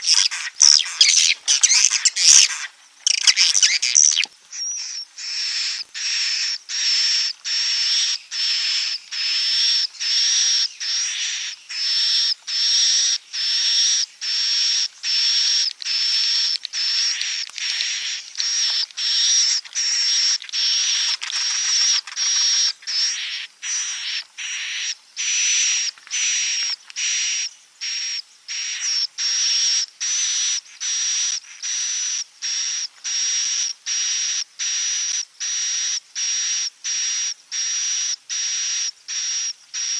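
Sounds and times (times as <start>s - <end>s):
raspy buzzing bird chirps: 0.0s - 39.9s.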